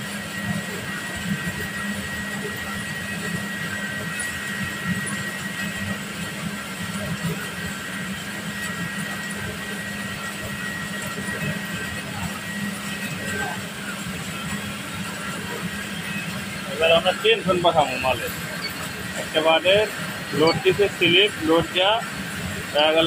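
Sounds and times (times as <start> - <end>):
high machine whine: 0.0 - 23.0
knitting machines humming: 0.0 - 23.0.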